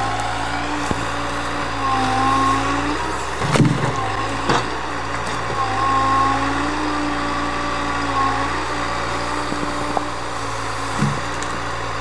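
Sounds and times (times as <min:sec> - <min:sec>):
diesel engine running: 0:00.0 - 0:12.0
hydraulic whine: 0:00.0 - 0:12.0.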